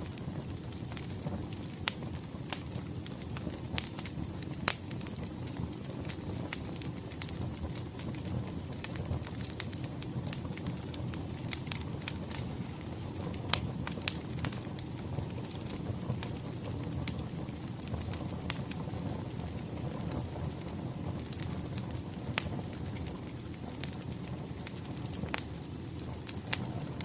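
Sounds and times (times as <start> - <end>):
fire popping: 0.0 - 27.0
low rush of flames: 0.0 - 27.0
wood fire crackling: 0.0 - 27.0.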